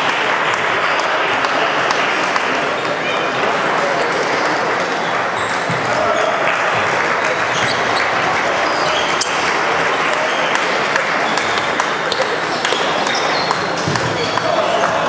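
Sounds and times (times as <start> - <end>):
murmur of sports hall: 0.0 - 15.0.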